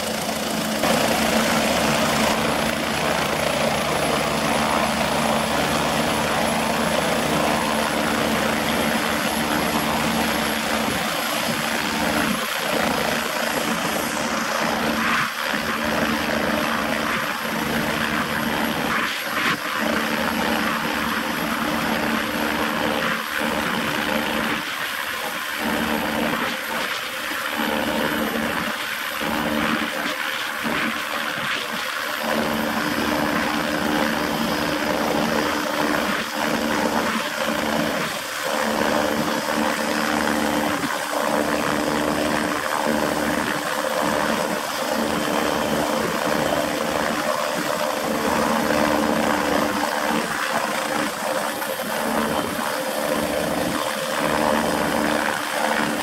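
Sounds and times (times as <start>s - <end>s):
helicopter engine and rotor: 0.0s - 56.0s
high-pitched turbine whine: 0.0s - 56.0s.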